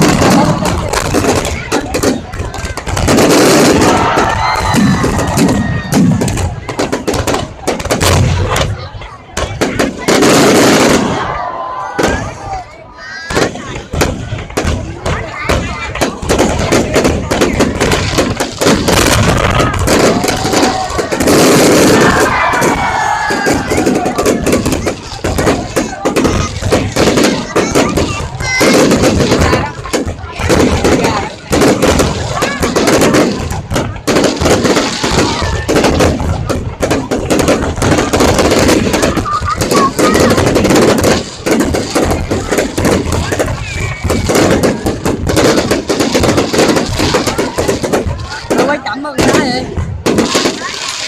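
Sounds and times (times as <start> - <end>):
crowd voices: 0.0 - 51.0
fireworks bangs: 0.0 - 51.0.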